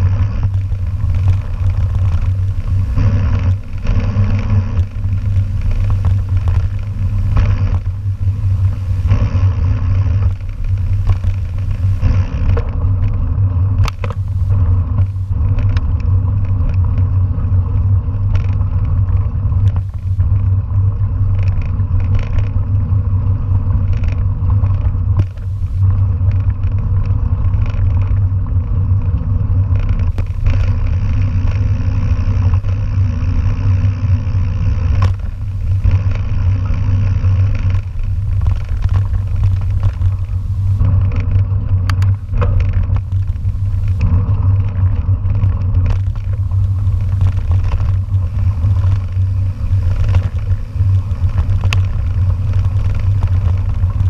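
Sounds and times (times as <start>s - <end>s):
bike clicking and rattling: 0.0s - 54.0s
bike tyres rumbling on gravel: 0.0s - 54.0s
wind on microphone: 0.0s - 54.0s.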